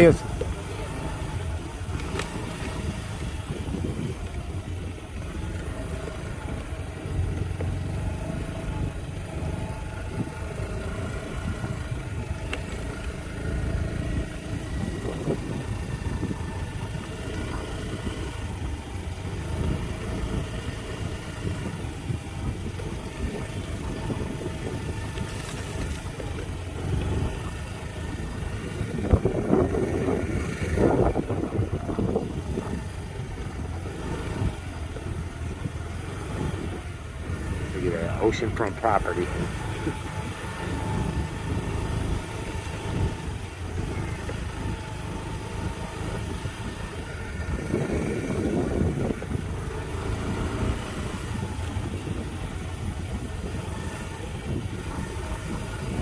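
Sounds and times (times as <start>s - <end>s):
motor scooter engine running: 0.0s - 56.0s.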